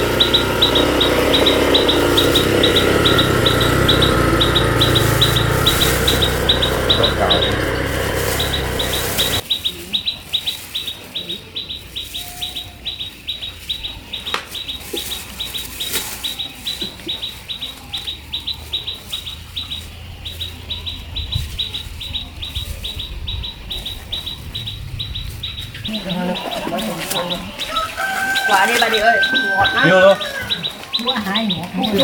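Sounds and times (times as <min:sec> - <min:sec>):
bird chirping rapidly: 0:00.0 - 0:32.0.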